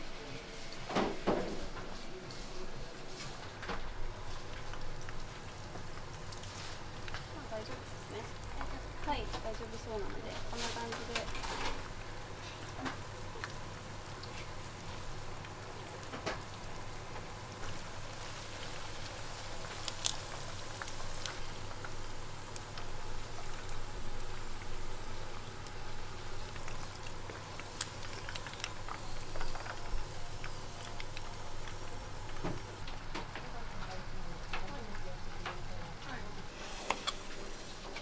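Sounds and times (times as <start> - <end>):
oil sizzling and crackling: 0.0 - 38.0.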